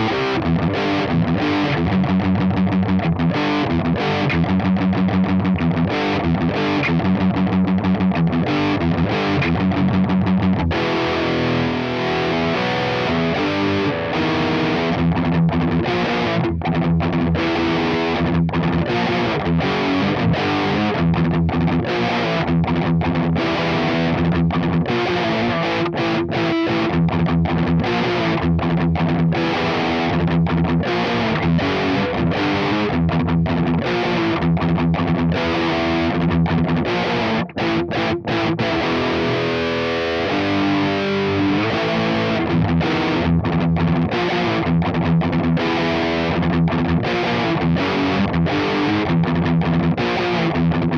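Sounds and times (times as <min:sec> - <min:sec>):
distorted electric guitar riffing: 0:00.0 - 0:50.9.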